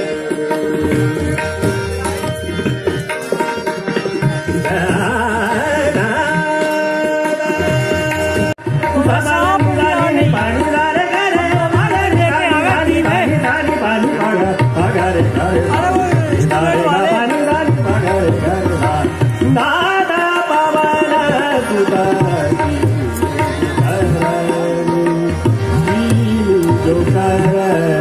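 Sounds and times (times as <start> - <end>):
harmonium: 0.0 - 28.0
tabla: 0.0 - 28.0
man singing melodic runs: 4.4 - 28.0.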